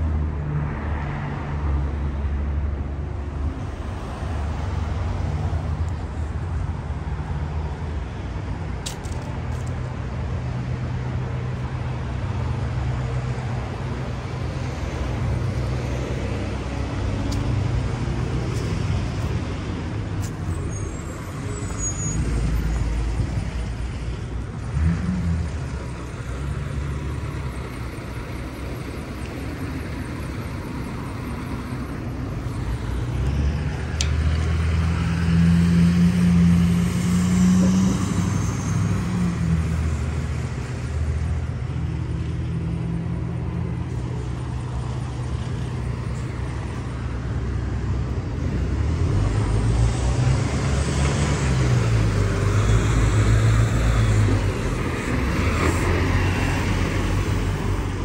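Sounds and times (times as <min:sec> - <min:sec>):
traffic engines rumbling: 0:00.0 - 0:58.0.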